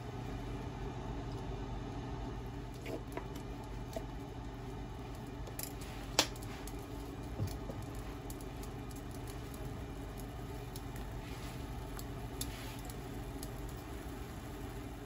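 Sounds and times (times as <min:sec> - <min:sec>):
liquid heating in a pan: 0:00.0 - 0:15.0.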